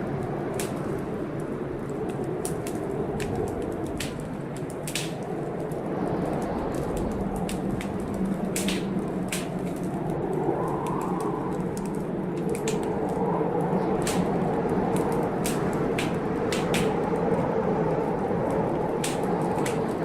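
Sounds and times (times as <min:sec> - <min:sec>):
storm wind and rain: 0:00.0 - 0:20.0
wood fire crackling: 0:00.0 - 0:20.0.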